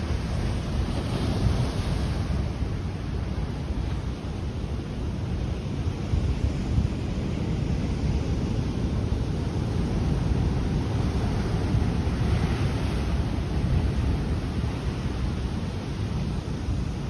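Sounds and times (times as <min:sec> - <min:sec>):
surf surging over rocks: 0:00.0 - 0:17.0
wind on microphone: 0:00.0 - 0:17.0.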